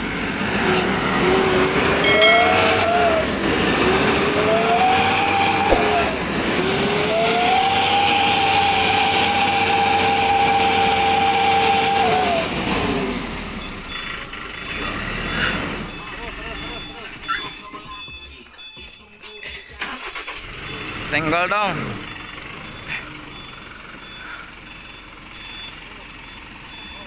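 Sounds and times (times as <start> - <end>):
diesel truck engine revving: 0.0 - 18.1, 19.8 - 27.0.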